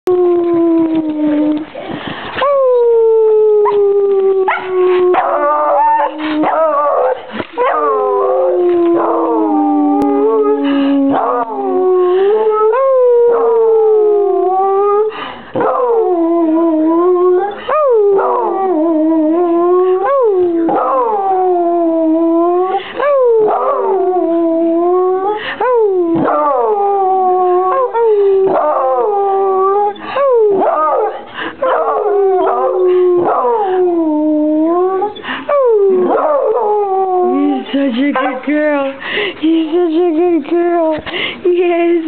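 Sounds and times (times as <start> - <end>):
dog howling: 2.4 - 15.0, 15.6 - 38.5.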